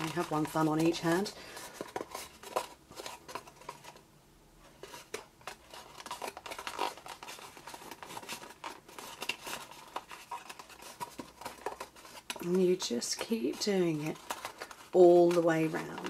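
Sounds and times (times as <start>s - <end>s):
stiff card crackling and rustling: 0.0s - 4.0s, 4.7s - 16.0s.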